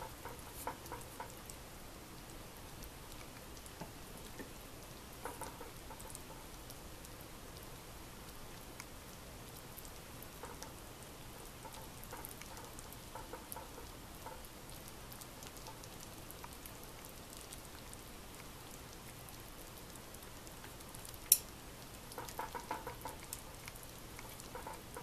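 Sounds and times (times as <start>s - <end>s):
soup simmering with crackling pops: 0.0s - 25.0s.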